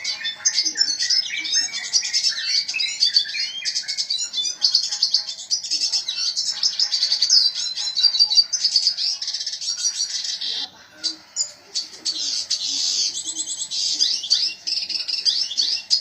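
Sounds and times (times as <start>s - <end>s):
bird song with chirps and trills: 0.0s - 16.0s.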